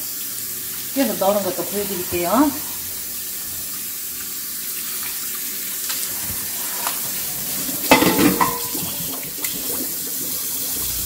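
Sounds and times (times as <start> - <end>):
tap water running into a sink: 0.0 - 11.0.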